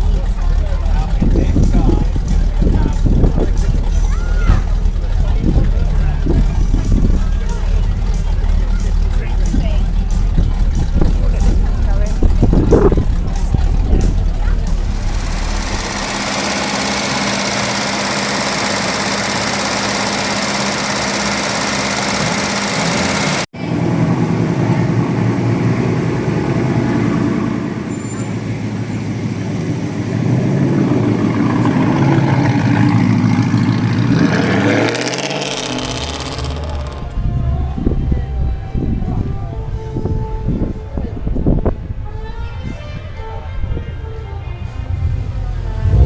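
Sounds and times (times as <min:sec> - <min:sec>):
car engines running: 0:00.0 - 0:46.0
rough low engine sound: 0:00.0 - 0:46.0.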